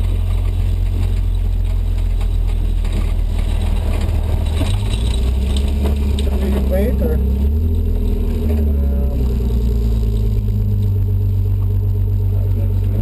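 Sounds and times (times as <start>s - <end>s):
race car engine droning: 0.0s - 13.0s.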